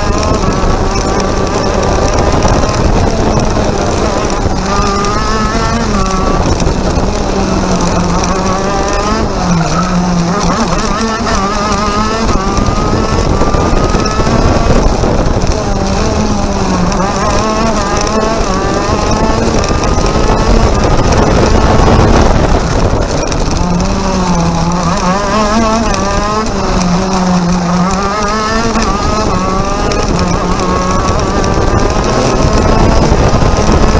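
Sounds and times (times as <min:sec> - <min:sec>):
kart engine revving: 0:00.0 - 0:33.9.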